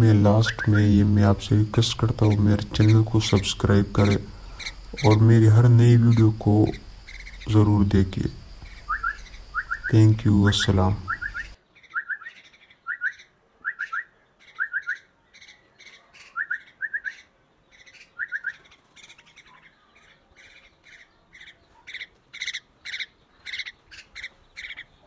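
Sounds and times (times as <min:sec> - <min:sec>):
mynah birds chirping and squawking: 0:00.0 - 0:25.0.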